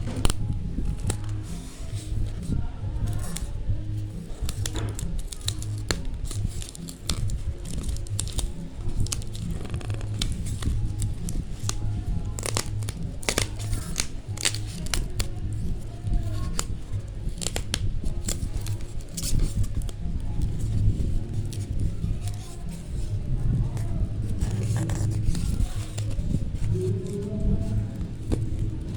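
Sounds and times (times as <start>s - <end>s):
background music with low beat: 0.0s - 28.9s
packaging crinkling and tearing: 0.0s - 28.9s.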